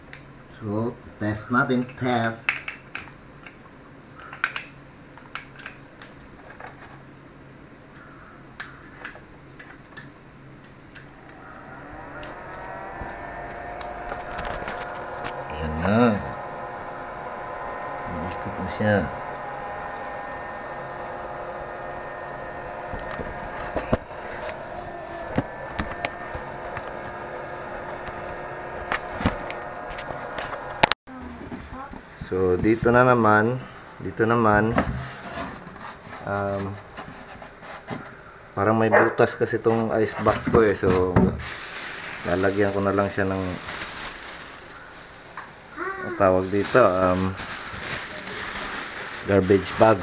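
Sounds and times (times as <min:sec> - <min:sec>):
computer fan whirring: 0:00.0 - 0:50.0.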